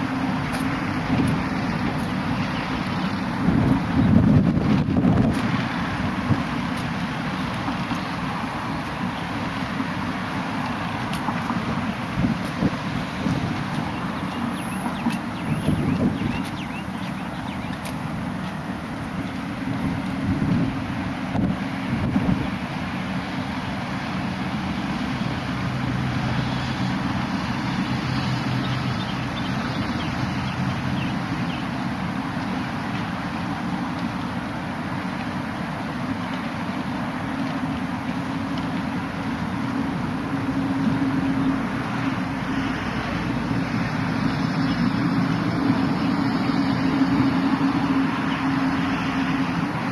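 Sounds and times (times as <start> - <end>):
motor engine humming: 0.0 - 49.9
water noise: 0.0 - 49.9
wind: 0.0 - 49.9.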